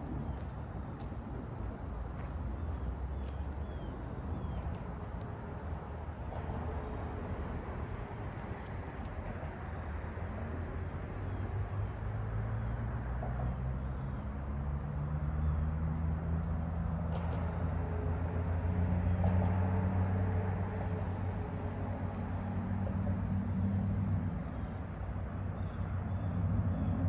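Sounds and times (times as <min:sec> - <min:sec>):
traffic rumble: 0:00.0 - 0:27.0
vehicle engine hum: 0:00.0 - 0:27.0.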